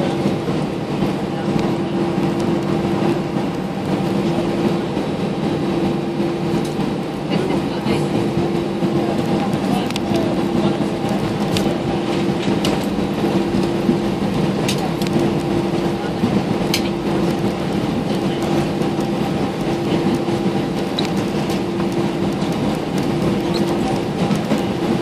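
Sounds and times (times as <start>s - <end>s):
jet engines humming: 0.0s - 25.0s.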